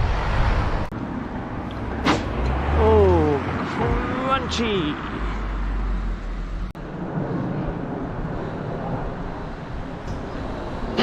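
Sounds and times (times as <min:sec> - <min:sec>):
car engine and tyres driving: 0:00.0 - 0:11.0.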